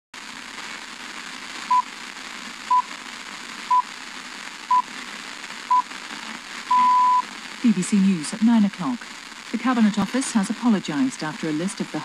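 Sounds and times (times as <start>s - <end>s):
radio reception hiss: 0.2s - 12.0s.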